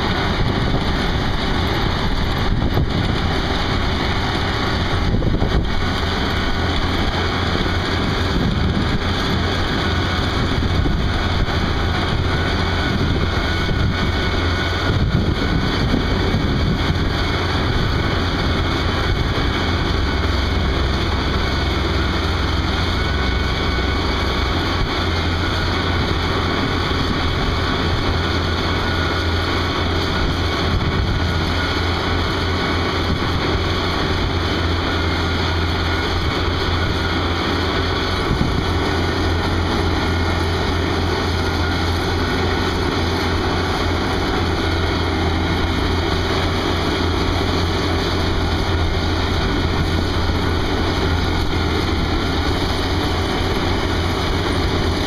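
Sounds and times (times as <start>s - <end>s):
constant low hum: 0.0s - 55.0s
diesel engine running under load: 0.0s - 55.0s.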